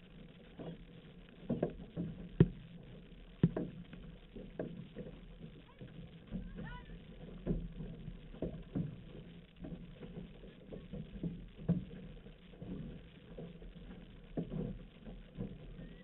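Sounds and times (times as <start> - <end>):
paddles pulling through water: 0.0 - 16.0
water splashing along hull: 0.0 - 16.0.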